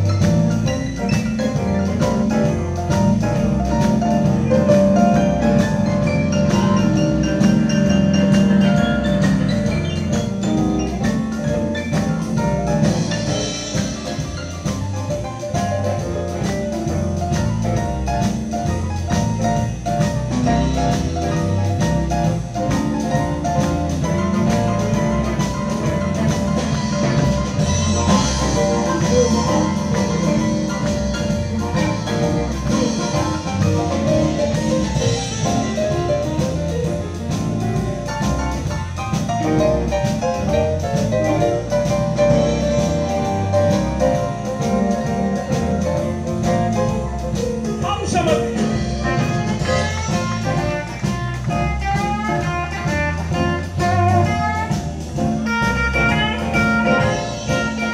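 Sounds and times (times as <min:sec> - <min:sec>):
bass: 0:00.0 - 0:57.9
drums: 0:00.0 - 0:57.9
electric guitars: 0:00.0 - 0:57.9
piano: 0:00.0 - 0:57.9.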